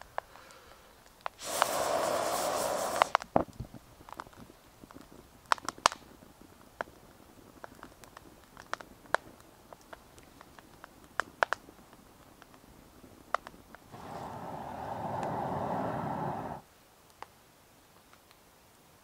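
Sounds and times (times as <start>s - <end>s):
wood crackling in fire: 0.0s - 19.0s.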